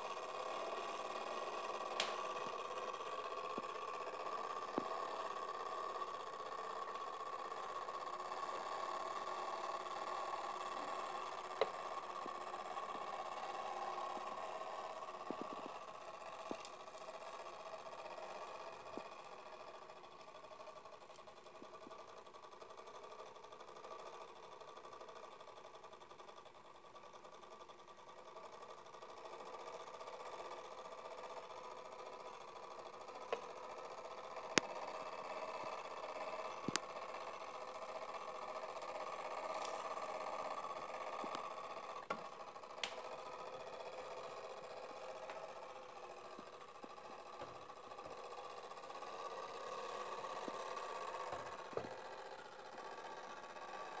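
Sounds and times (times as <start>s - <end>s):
clockwork mechanism whirring: 0.0s - 54.0s.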